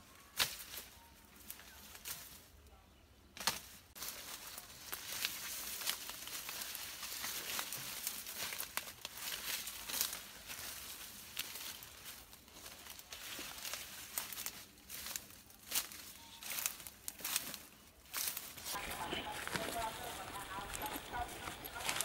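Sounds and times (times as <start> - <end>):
dry leaves crackling and rustling: 0.0 - 2.7, 3.3 - 22.0.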